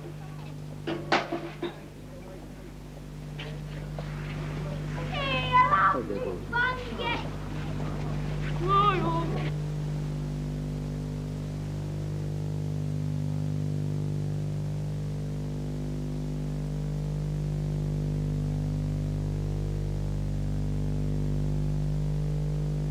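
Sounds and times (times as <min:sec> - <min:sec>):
electrical hum and buzz: 0:00.0 - 0:22.9.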